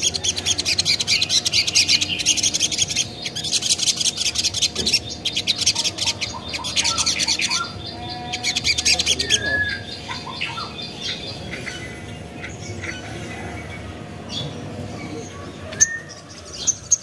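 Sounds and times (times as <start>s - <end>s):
bird high chattering song: 0.0s - 17.0s.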